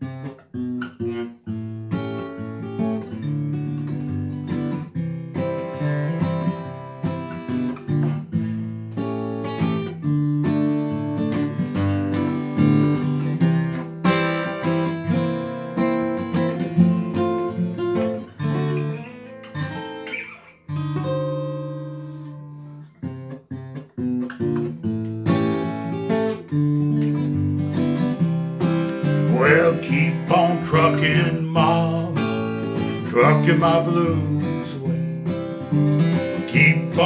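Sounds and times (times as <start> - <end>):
acoustic blues guitar: 0.0 - 37.0.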